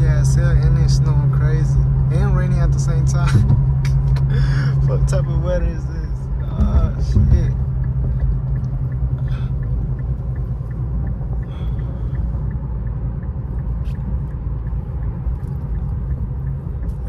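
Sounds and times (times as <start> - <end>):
car engine rumble: 0.0 - 17.0
tyres on snowy road: 0.0 - 17.0.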